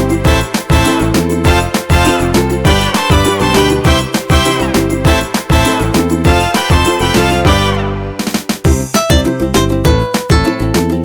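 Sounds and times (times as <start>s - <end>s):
upbeat music with drums: 0.0s - 11.0s.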